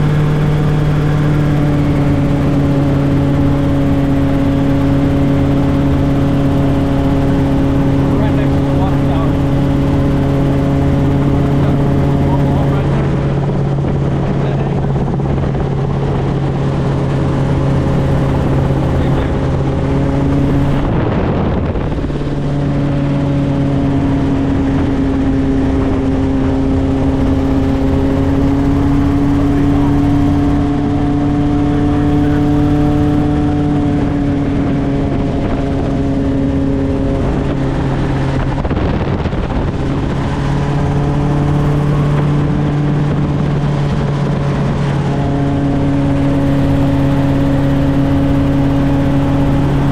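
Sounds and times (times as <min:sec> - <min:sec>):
helicopter engine and rotors: 0:00.0 - 0:49.9.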